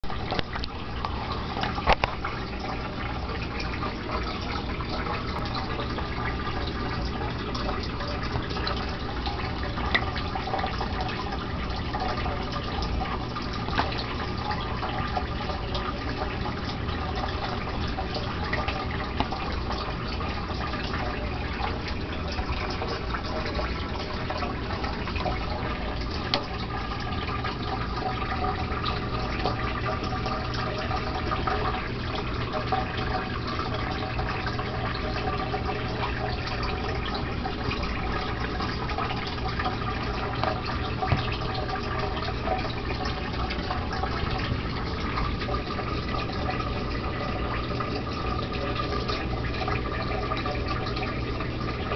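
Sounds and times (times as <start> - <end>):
running splashing water: 0.0 - 51.9.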